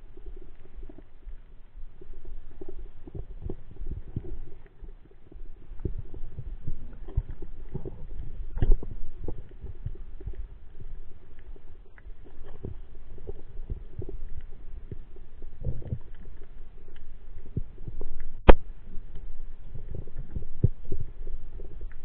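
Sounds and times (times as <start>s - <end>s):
faint small crackles: 0.0s - 22.0s
muffled underwater thumps and rumbling: 0.0s - 22.0s.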